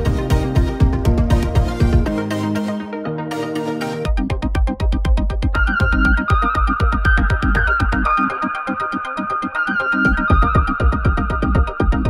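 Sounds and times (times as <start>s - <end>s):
held synthesizer chords: 0.0s - 12.0s.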